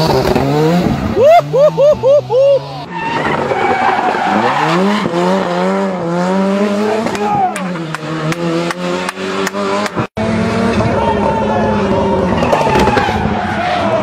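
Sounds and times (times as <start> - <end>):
rally car engine revving hard: 0.0 - 1.9, 2.6 - 14.0.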